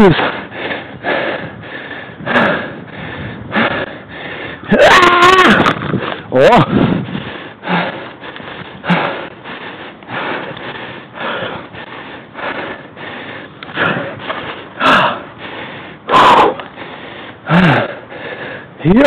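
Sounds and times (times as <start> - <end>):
person breathing hard: 0.0 - 4.7, 5.6 - 18.9.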